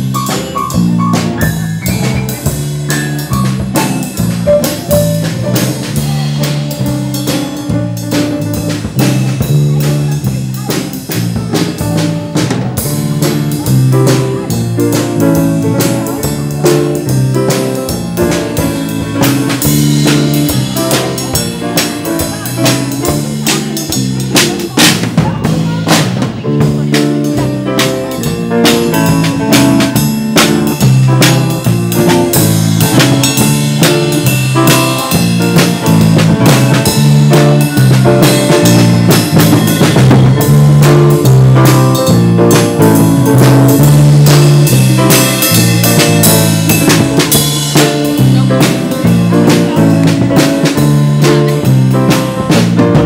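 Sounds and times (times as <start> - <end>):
bass and keyboard notes: 0.0 - 53.0
drum kit beat: 0.0 - 53.0.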